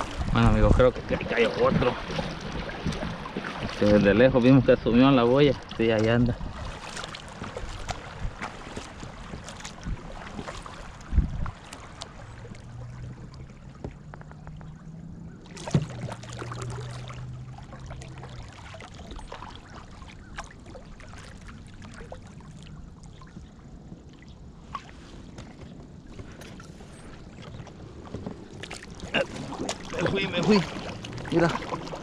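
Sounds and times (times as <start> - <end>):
water lapping: 0.0 - 32.0.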